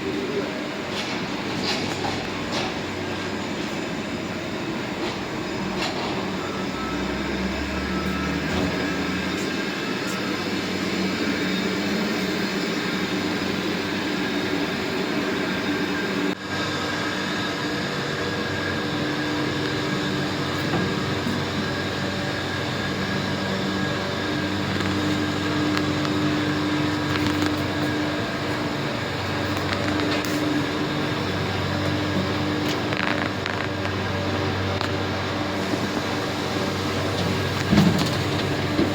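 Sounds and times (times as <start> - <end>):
fans hissing air: 0.0 - 38.9
industrial machine hum: 0.0 - 38.9.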